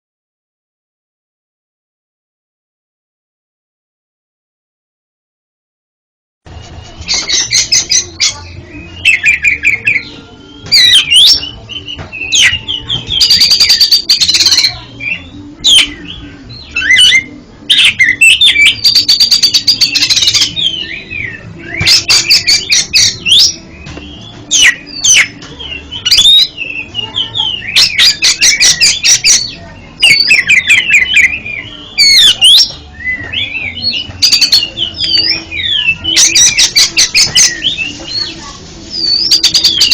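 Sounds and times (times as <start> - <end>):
songbird singing whistled phrases: 6.8 - 39.9.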